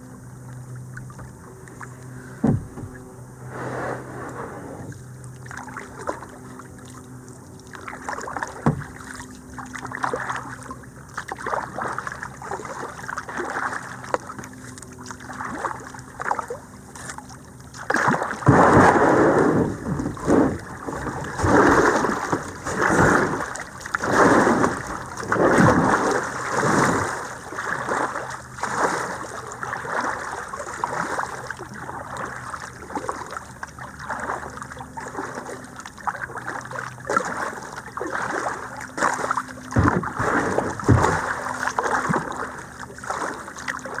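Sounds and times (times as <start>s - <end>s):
water swishing: 0.1s - 44.0s
kayak paddle splashing: 0.4s - 44.0s.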